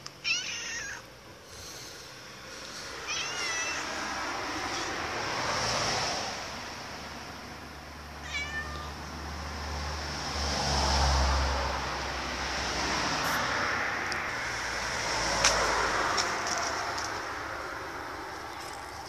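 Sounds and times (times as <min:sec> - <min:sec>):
cars passing: 0:00.2 - 0:19.0.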